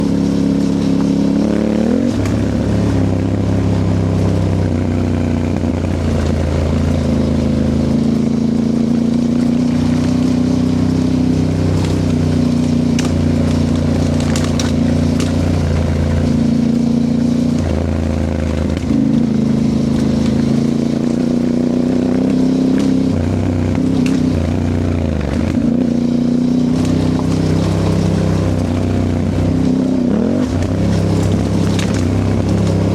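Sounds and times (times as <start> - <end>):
clicks and scrapes from trail: 0.0 - 32.9
motorcycle engine revving: 0.0 - 32.9.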